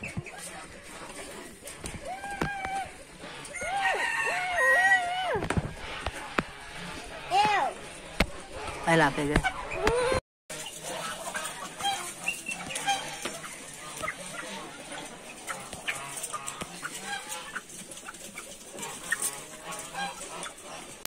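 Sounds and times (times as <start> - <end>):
pheasants clucking and chirping: 0.0 - 21.0.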